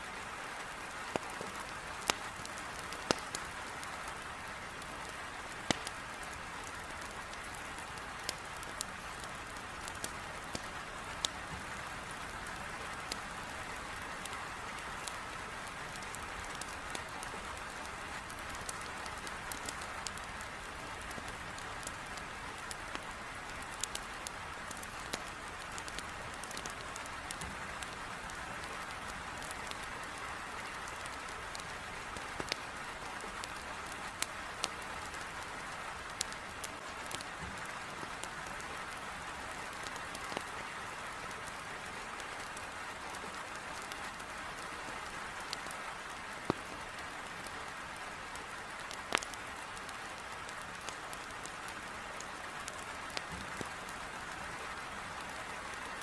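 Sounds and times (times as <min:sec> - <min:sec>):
wood fire crackling: 0:00.2 - 0:56.0.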